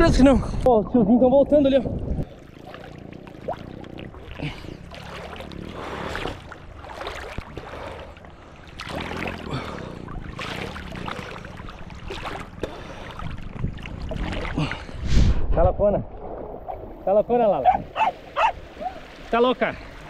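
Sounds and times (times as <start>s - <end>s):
seawater sloshing and splashing: 1.7s - 15.2s, 16.1s - 20.0s.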